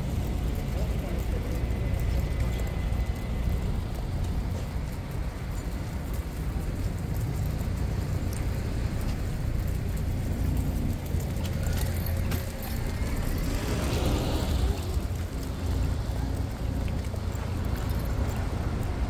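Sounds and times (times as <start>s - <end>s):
city traffic noise: 0.0s - 19.0s
stroller wheels rolling on pavement: 0.0s - 19.0s.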